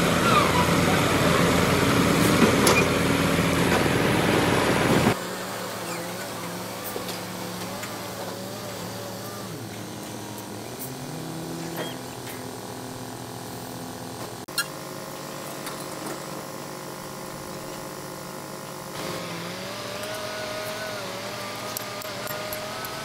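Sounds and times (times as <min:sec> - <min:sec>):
heavy machinery engines running: 0:00.0 - 0:23.0.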